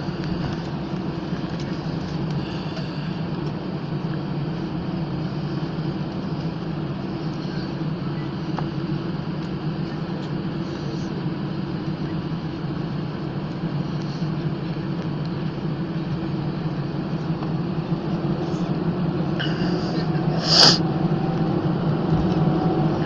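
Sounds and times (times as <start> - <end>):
low mechanical drone: 0.0 - 23.0.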